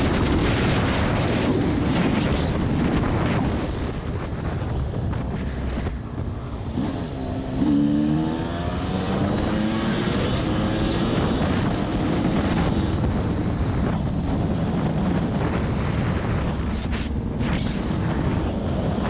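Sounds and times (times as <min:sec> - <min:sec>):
wind and rough ground rumble: 0:00.0 - 0:19.0.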